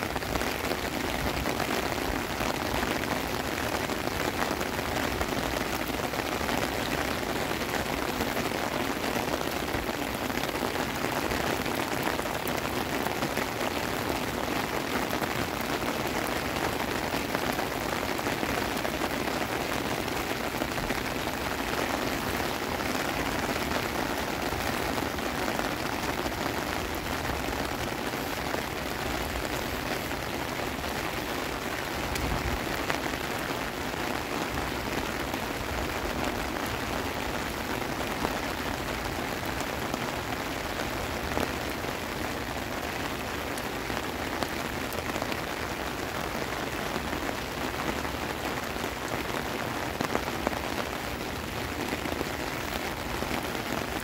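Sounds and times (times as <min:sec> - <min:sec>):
heavy rain on wet pavement: 0:00.0 - 0:54.0.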